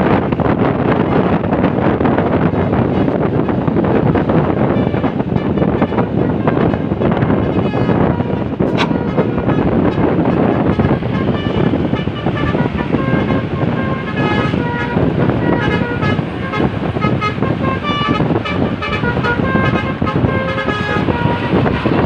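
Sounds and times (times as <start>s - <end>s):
engine and traffic rumble: 0.0s - 22.0s
bus melody horn tooting: 0.9s - 1.5s, 2.2s - 22.0s.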